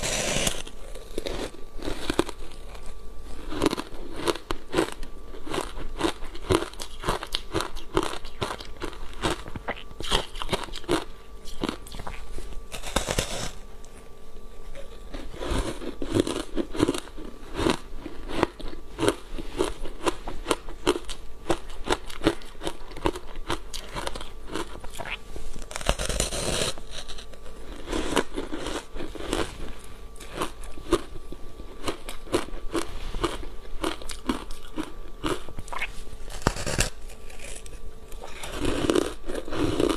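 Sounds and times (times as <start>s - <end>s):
chewing crunchy ice: 0.0s - 14.0s, 14.7s - 39.9s.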